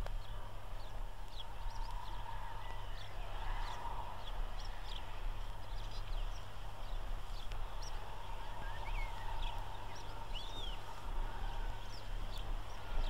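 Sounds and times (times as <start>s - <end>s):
birds chirping and calling: 0.1s - 13.0s.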